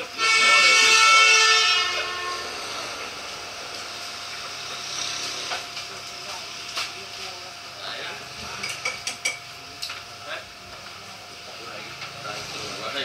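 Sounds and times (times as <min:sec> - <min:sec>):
steady hiss and hum: 0:00.0 - 0:13.0.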